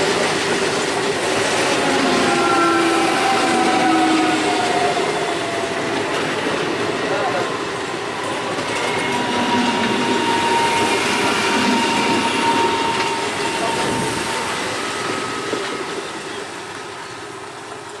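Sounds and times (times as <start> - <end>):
train wheels on rails: 0.0 - 18.0
wheels squealing: 1.2 - 17.5.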